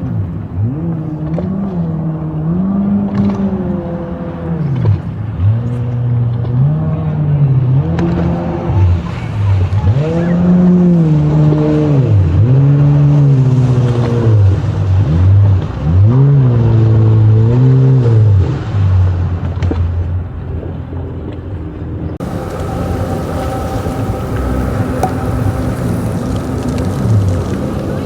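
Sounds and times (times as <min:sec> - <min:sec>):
engine revving: 0:00.6 - 0:18.8, 0:22.2 - 0:28.0.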